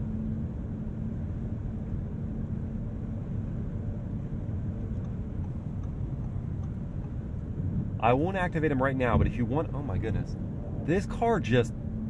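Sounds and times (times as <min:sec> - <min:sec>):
low steady hum: 0:00.0 - 0:12.0
road and tyre rumble: 0:00.0 - 0:12.0.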